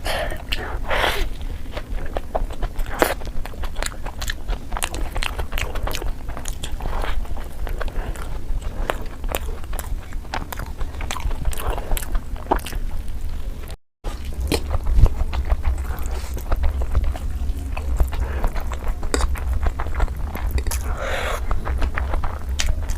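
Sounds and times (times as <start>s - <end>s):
crunchy chewing: 0.0s - 22.9s
low hum: 0.0s - 22.9s.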